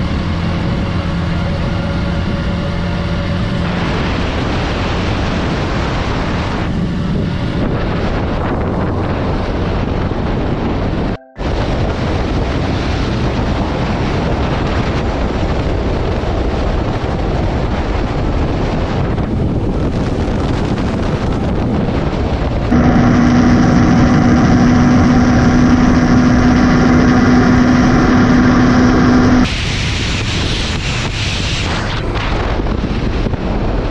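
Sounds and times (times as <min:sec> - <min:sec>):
steady engine drone: 0:00.0 - 0:33.8
motorcycle riding at speed: 0:00.0 - 0:33.9
wind rushing over microphone: 0:00.0 - 0:33.9.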